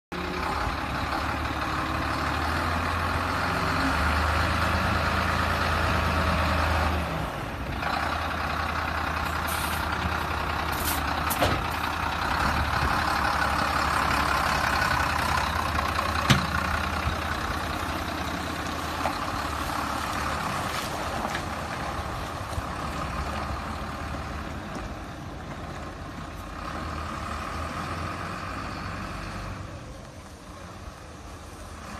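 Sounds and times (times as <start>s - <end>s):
diesel truck engine running: 0.1s - 31.9s.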